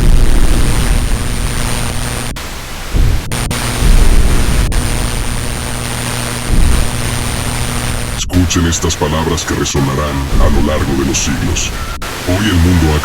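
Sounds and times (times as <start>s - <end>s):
deep rumbling thumps: 0.0s - 8.5s, 9.8s - 12.1s
low electrical hum: 0.0s - 13.0s
static hiss: 0.0s - 13.0s
thin high whine: 0.0s - 13.0s.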